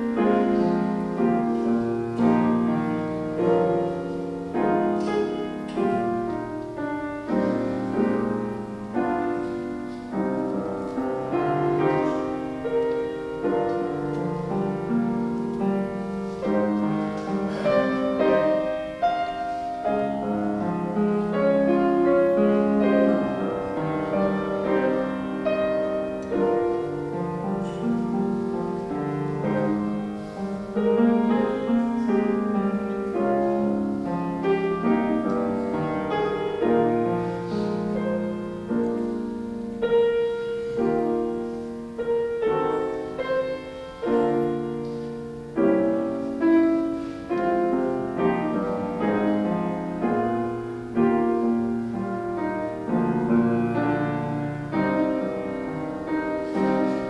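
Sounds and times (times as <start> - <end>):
slow piano piece: 0.0 - 57.0.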